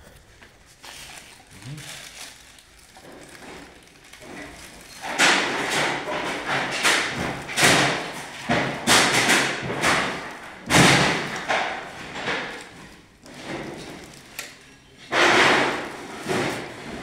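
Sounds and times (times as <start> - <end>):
handling thuds and rustles: 0.0 - 17.0.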